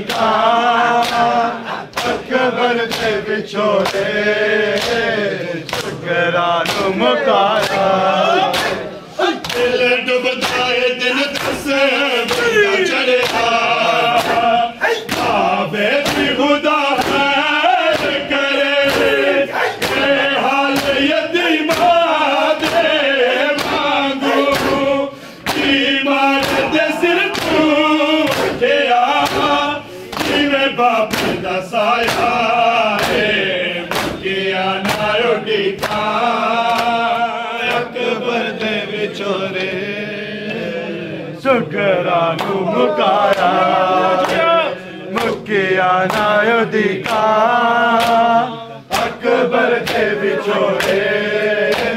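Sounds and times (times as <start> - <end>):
hands slapping on chests: 0.0 - 6.0, 6.6 - 38.0, 42.3 - 44.6, 46.0 - 47.4, 48.0 - 48.3, 48.9 - 51.1, 51.7 - 51.9
men chanting a lament: 0.0 - 51.9.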